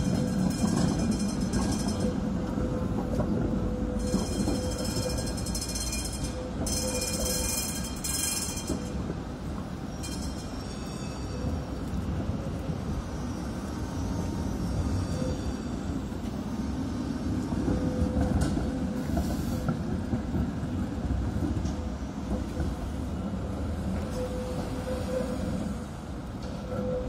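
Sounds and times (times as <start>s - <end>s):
tram wheels rumbling on rails: 0.0s - 27.0s.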